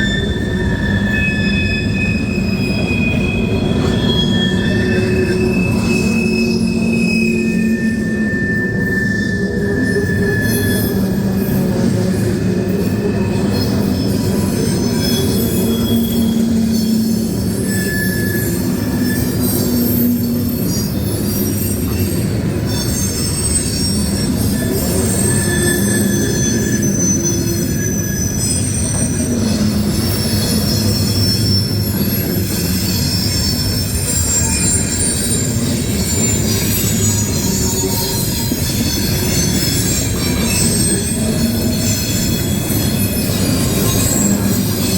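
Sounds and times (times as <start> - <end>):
high-pitched wheel squeals: 0.0 - 44.9
train wheels rumbling on rails: 0.0 - 44.9.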